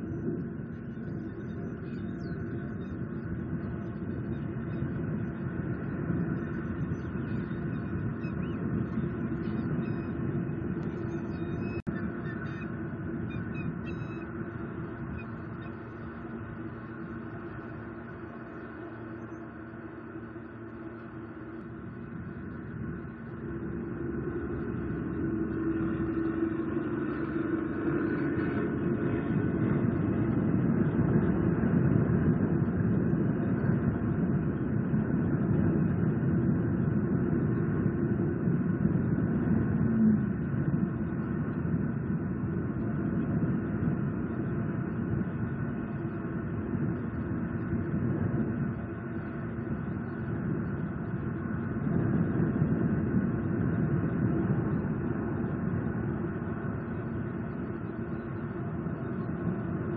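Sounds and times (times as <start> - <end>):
steady low rumbling: 0.0 - 59.9.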